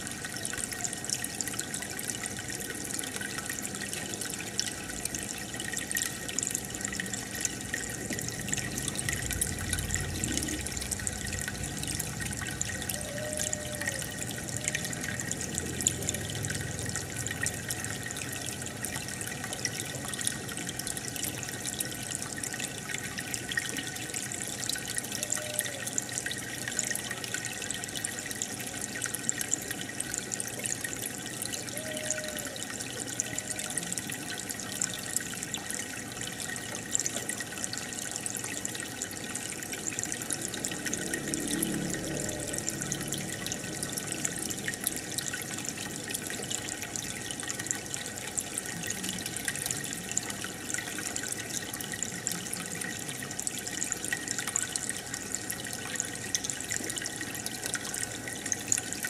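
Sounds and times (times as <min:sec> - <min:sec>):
aquarium water bubbling: 0:00.0 - 0:59.0.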